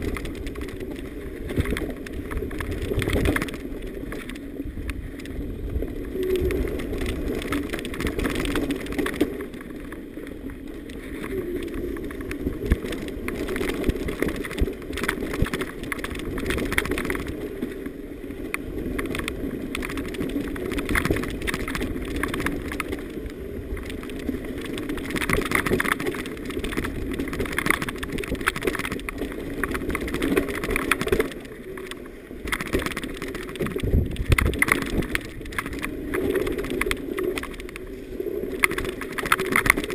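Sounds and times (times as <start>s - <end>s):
bike rattling and knocking: 0.0s - 4.5s, 5.1s - 37.8s, 38.6s - 39.9s.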